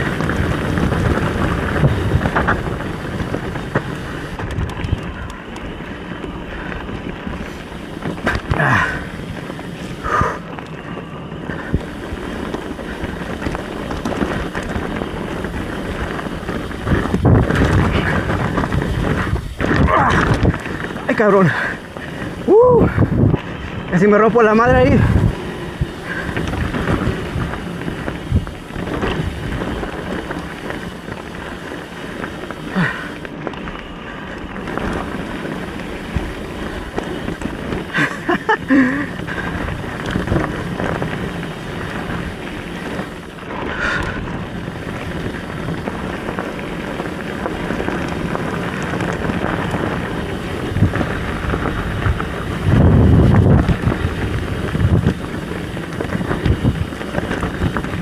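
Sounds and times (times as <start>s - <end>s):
bike knocks and rattles: 0.0s - 58.0s
bike tyre and riding noise: 0.0s - 58.0s
wind buffeting microphone: 0.0s - 58.0s.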